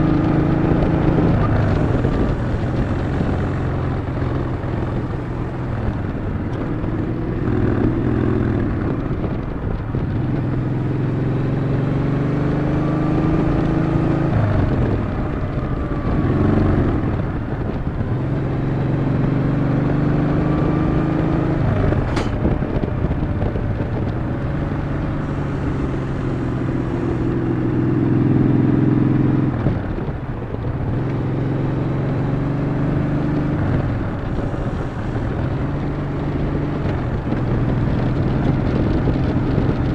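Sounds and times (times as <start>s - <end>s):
motorcycle exhaust note: 0.0s - 39.9s
wind noise: 0.0s - 39.9s.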